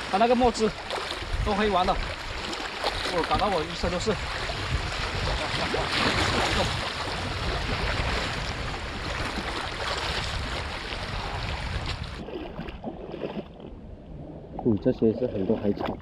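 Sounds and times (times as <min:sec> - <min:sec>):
seawater washing at shoreline: 0:00.0 - 0:13.6.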